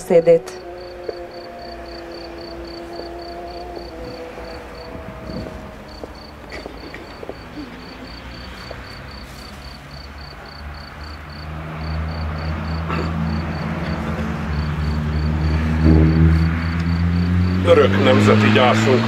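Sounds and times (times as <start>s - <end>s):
cricket chirping: 0.1s - 18.2s.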